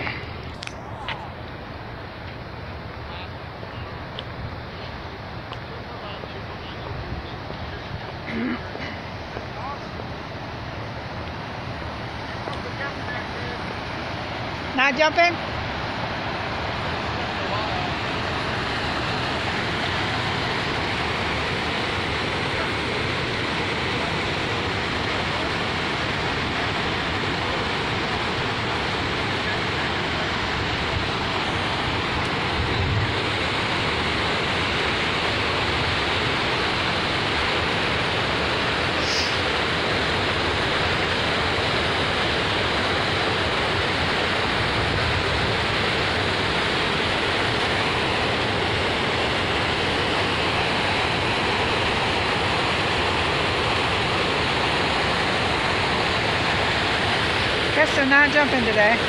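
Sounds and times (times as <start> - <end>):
river water rushing over dam: 0.0 - 59.0.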